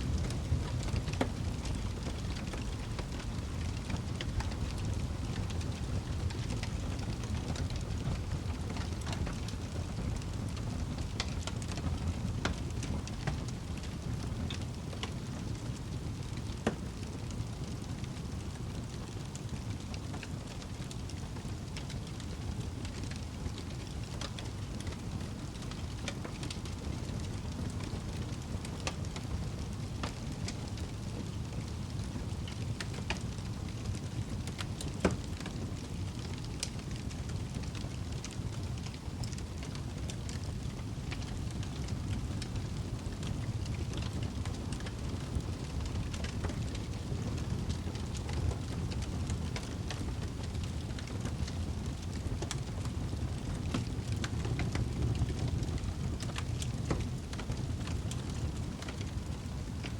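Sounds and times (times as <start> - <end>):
fire crackling and popping: 0.0 - 59.9
fire low rumble: 0.0 - 59.9.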